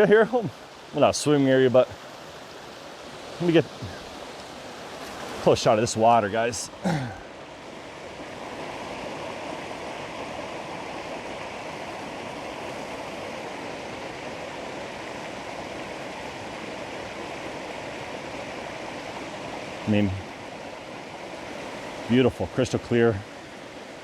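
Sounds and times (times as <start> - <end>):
creek water running over rocks: 0.0 - 24.0.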